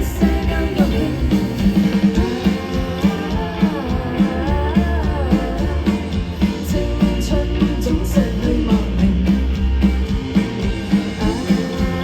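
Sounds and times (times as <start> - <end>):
person singing: 0.0 - 9.6, 11.2 - 12.0
live band music: 0.0 - 12.0.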